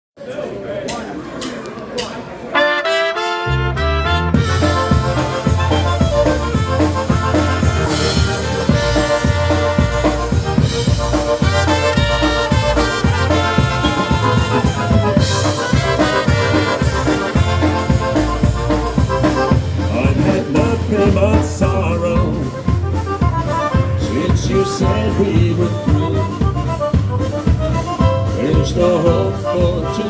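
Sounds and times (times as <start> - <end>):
polka band brass playing: 2.5 - 30.0
drum kit steady beat: 3.8 - 30.0.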